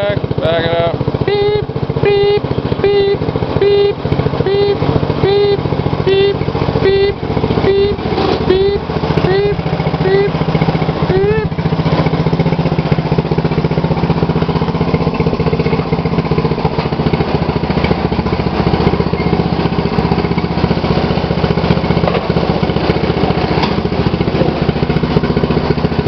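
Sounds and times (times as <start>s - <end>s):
lawn tractor engine running: 0.0s - 26.0s.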